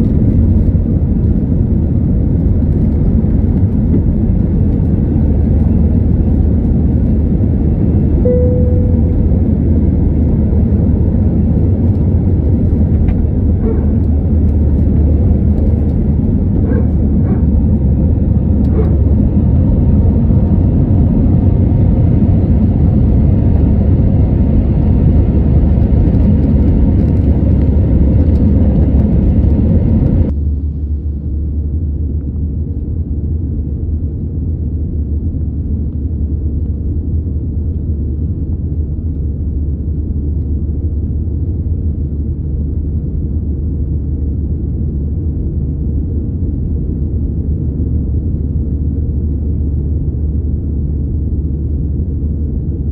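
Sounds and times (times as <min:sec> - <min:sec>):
aircraft engine and airflow rumble: 0:00.0 - 0:52.9.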